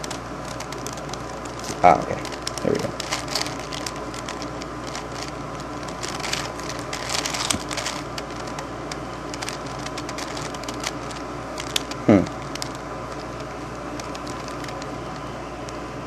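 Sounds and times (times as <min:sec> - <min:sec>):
puzzle cube clicking and rattling: 0:00.0 - 0:15.3.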